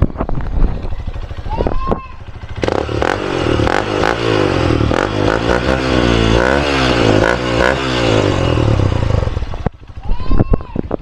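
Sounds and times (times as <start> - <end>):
motorcycle engine revving: 0.0 - 10.1.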